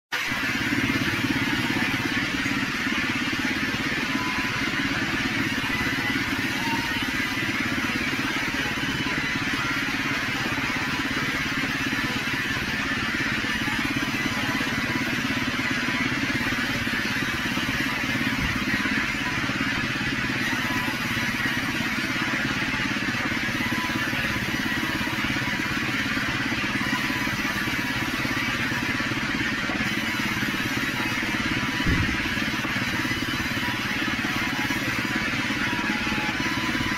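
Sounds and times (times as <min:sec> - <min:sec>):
band sawmill cutting log: 0:00.1 - 0:36.9.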